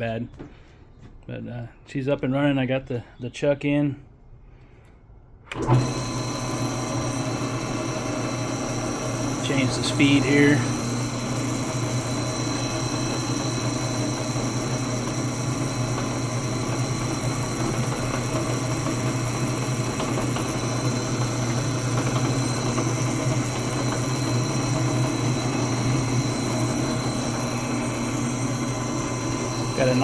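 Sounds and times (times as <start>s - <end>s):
drill press humming: 5.5s - 30.0s.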